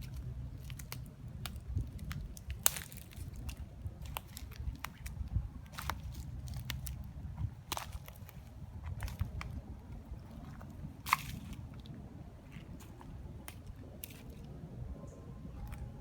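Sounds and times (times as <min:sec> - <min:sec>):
footsteps crunching over debris: 0:00.0 - 0:14.5
low microphone rumble: 0:00.0 - 0:16.0.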